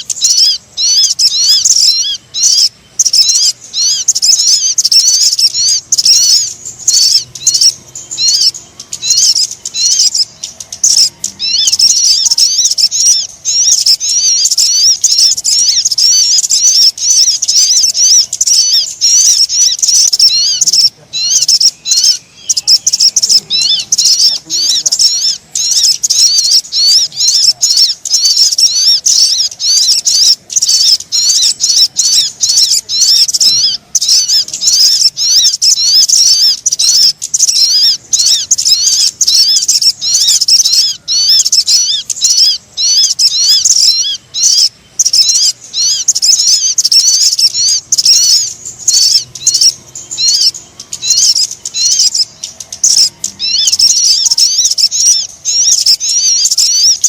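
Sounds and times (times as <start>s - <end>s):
rapid high-pitched bird chirping: 0.0s - 57.0s.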